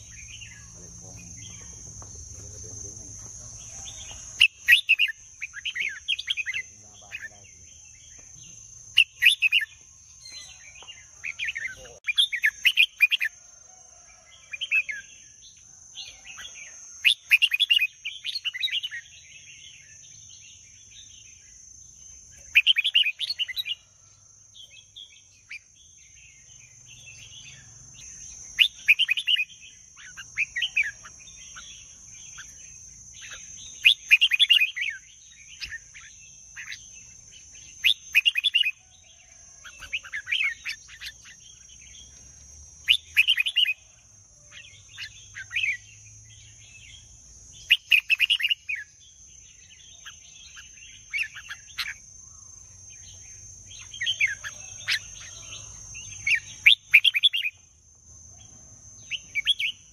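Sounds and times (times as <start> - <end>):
bird singing warbled phrases: 0.0 - 13.5, 14.4 - 59.9.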